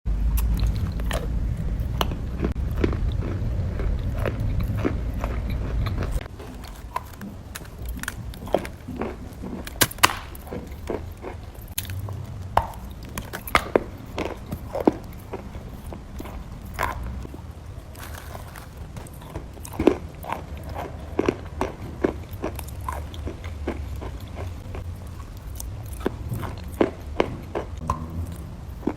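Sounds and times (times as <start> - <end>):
low rumble: 0.1 - 9.0, 9.6 - 28.9
chewing crunchy chalk: 0.4 - 28.9.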